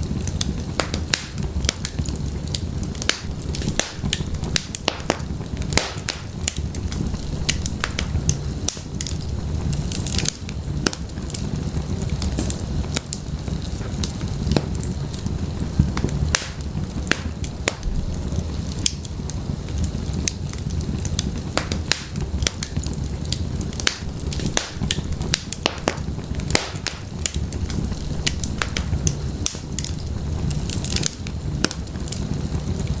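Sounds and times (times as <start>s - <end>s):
firewood crackling and popping: 0.0s - 33.0s
low rumble of flames: 0.0s - 33.0s.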